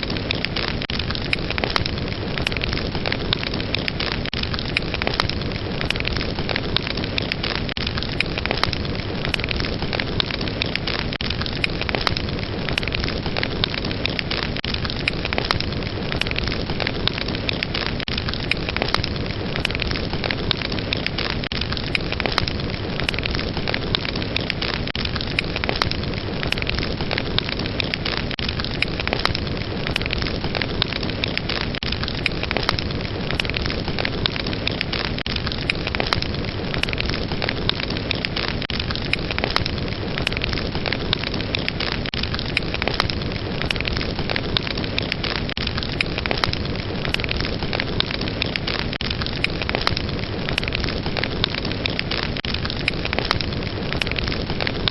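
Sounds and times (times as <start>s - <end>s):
fire crackling and popping: 0.0s - 54.9s
rushing flames: 0.0s - 54.9s.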